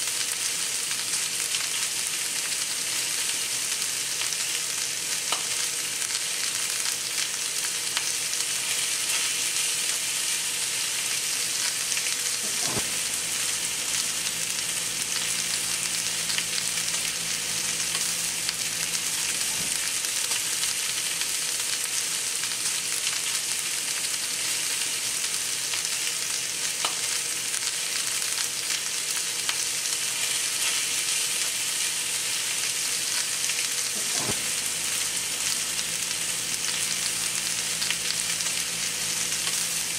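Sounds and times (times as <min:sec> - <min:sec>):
steaks sizzling in skillet: 0:00.0 - 0:39.9.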